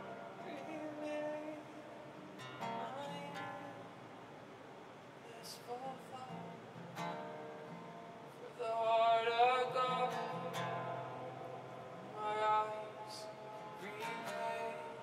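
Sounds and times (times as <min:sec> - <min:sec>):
acoustic guitar strumming: 0:00.0 - 0:04.1, 0:05.3 - 0:15.0
person singing wordless melody: 0:00.0 - 0:04.1, 0:05.2 - 0:06.6, 0:08.3 - 0:15.0.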